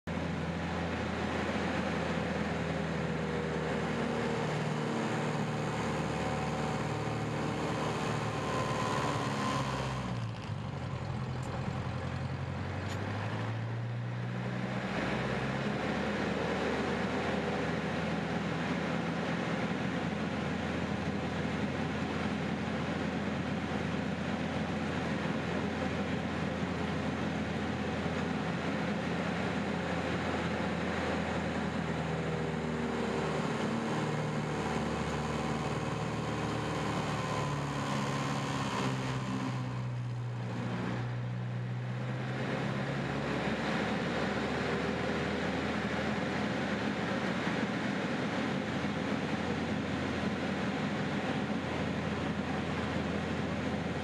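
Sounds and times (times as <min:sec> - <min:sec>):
propeller plane engine running: 0:00.0 - 0:54.0.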